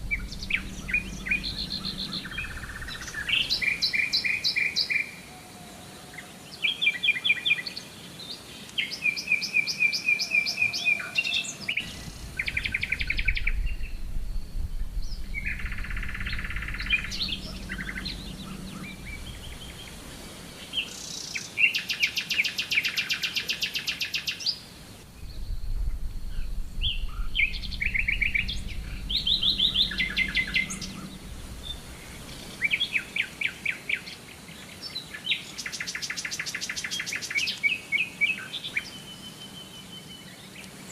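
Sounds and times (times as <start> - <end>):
songbirds trilling and chirping: 0.0 - 40.9.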